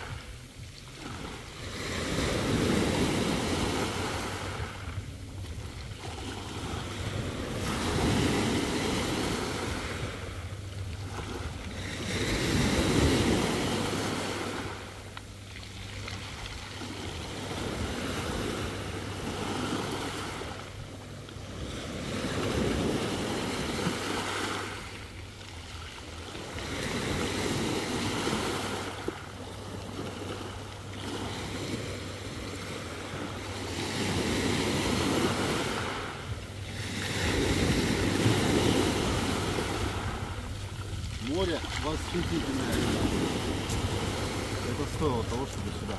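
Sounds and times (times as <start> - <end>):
waves washing up pebble shore: 0.0 - 20.8, 21.4 - 45.9.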